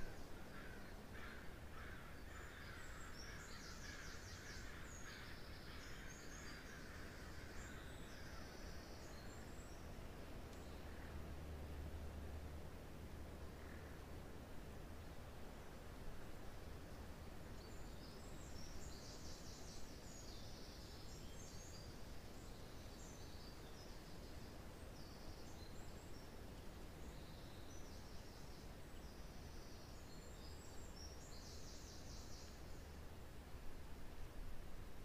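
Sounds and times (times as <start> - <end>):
wind through pine trees: 0.0 - 35.0.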